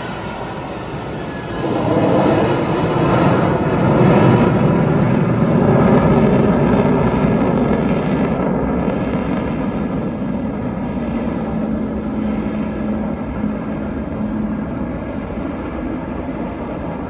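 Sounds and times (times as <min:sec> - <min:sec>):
fighter jet flying overhead: 0:00.0 - 0:17.0.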